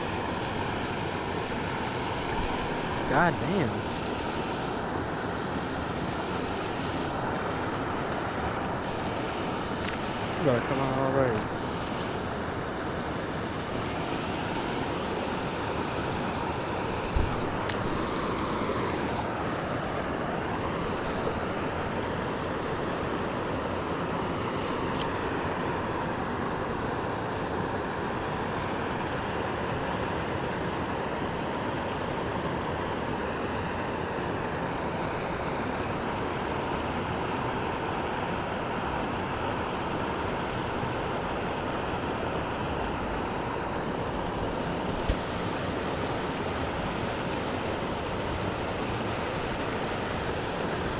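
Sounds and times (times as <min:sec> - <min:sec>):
river water flowing over rocks: 0:00.0 - 0:50.9.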